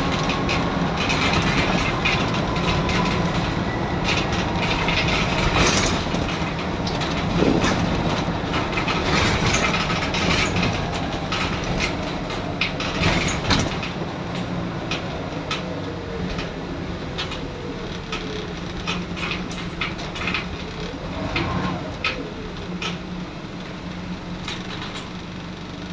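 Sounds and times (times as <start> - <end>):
bus diesel engine drone: 0.0 - 25.9
rattles and knocks from bus body: 0.0 - 25.9
road noise: 0.0 - 25.9.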